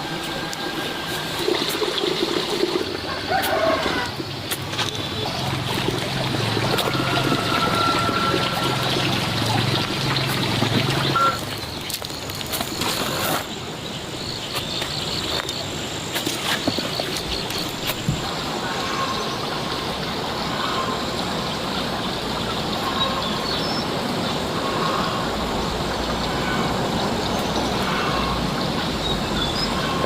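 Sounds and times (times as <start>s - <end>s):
water pouring and trickling: 0.0s - 30.0s.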